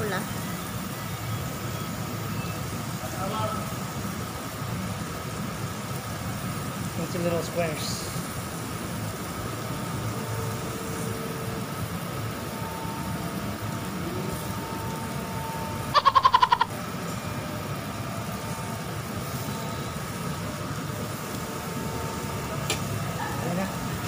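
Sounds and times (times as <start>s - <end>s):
meat cooking on grill: 0.0s - 24.0s
exhaust hood running: 2.7s - 24.0s.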